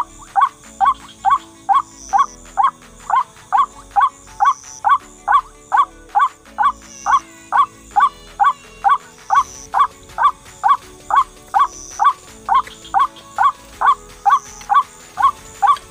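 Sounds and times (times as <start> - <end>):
waterhen calling: 0.0 - 15.9.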